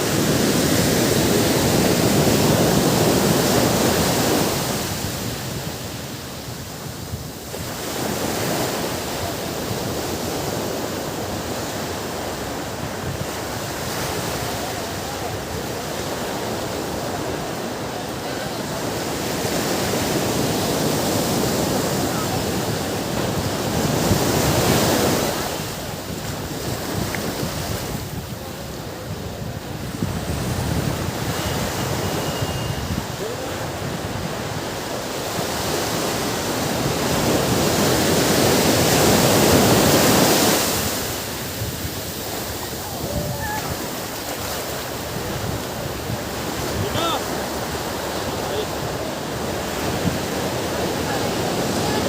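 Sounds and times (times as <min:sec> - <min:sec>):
ocean surf washing on beach: 0:00.0 - 0:52.0.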